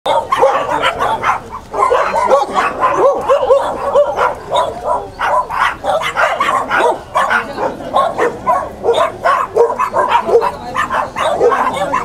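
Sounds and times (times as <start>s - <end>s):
dog barking and yipping: 0.0s - 12.0s
dog whining: 1.8s - 12.0s.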